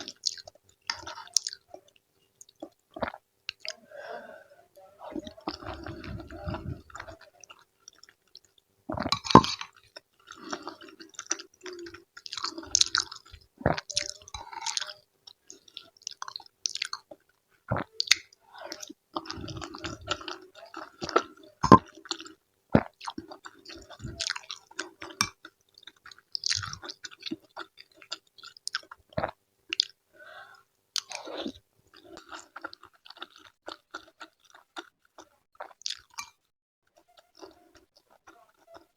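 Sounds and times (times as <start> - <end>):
close chewing of food: 0.0 - 4.4, 5.0 - 38.9.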